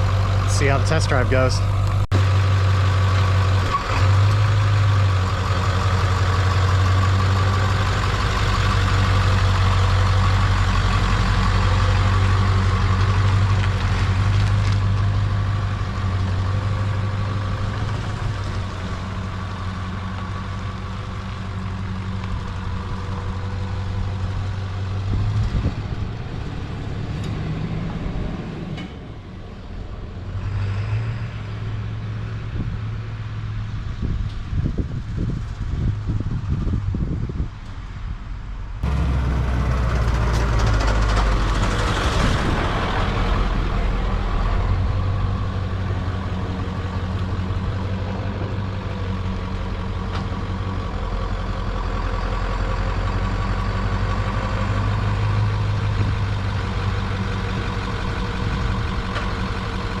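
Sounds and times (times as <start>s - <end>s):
diesel truck engine running: 0.0s - 60.0s.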